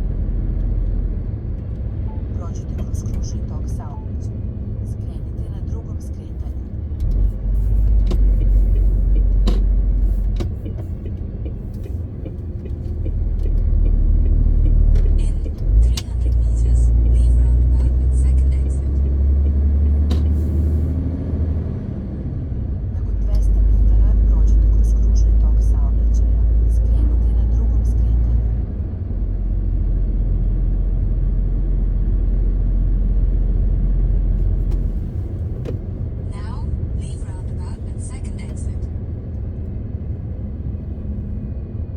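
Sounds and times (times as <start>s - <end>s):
road rumble: 0.0s - 41.9s
truck diesel engine drone: 0.0s - 41.9s.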